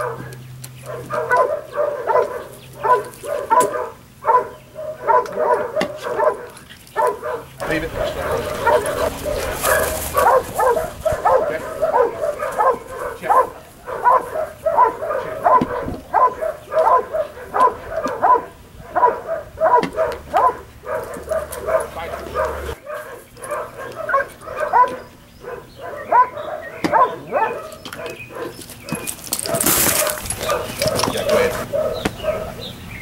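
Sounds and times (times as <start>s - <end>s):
dog barking: 0.0s - 32.7s.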